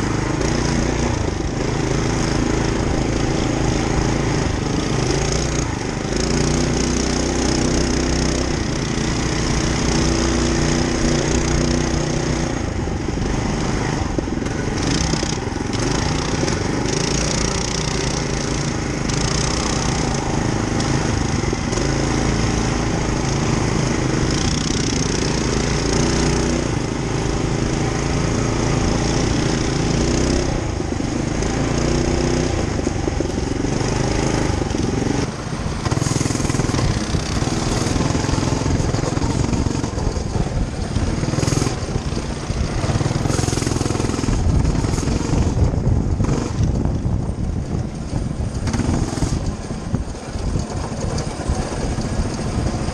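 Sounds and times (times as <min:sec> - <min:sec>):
mini bike engine revving: 0:00.0 - 0:52.9
steady rushing noise: 0:00.0 - 0:52.9.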